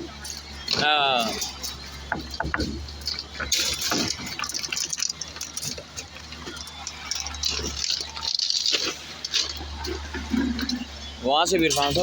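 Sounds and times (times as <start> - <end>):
wet concrete sloshing: 0.0 - 12.0.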